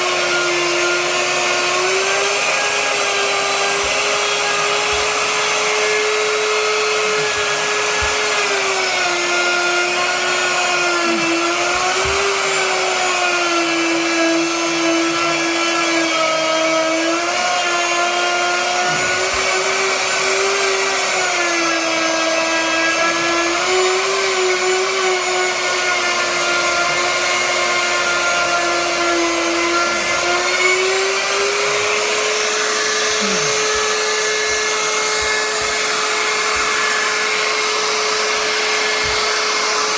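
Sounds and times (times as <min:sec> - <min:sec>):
electric router whining: 0:00.0 - 0:39.9.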